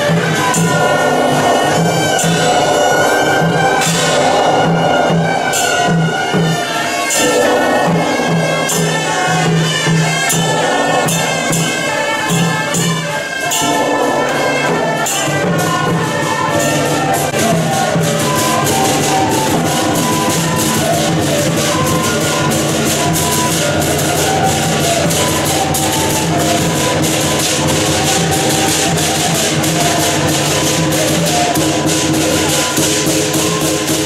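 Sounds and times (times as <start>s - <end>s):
cymbal clashes: 0.0s - 34.0s
steady drum beat: 0.0s - 34.0s
wind instruments melody: 0.0s - 34.0s.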